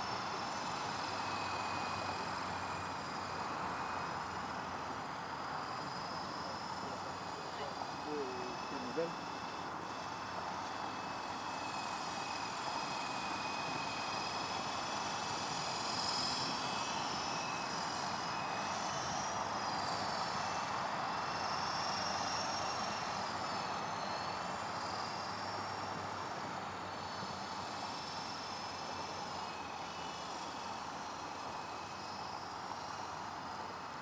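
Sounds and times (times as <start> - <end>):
model helicopter rotor drone: 0.0 - 34.0.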